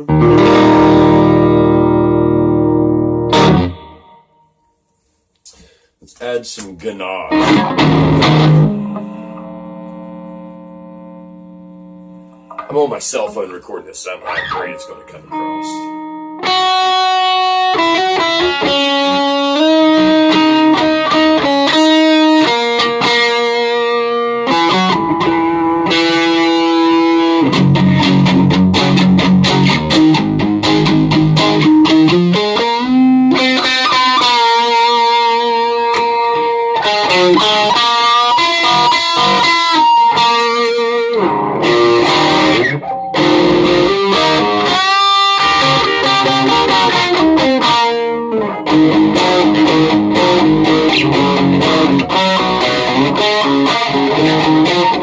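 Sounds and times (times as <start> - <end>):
electric guitar lead line: 0.0 - 4.6, 7.2 - 55.0.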